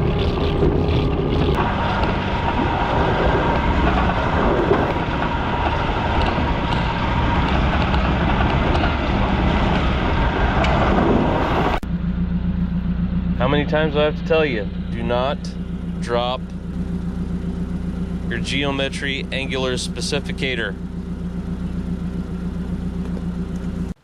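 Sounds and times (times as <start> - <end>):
small engine running: 0.0 - 11.2, 11.9 - 24.0
tracks rumbling and clattering: 0.0 - 24.0.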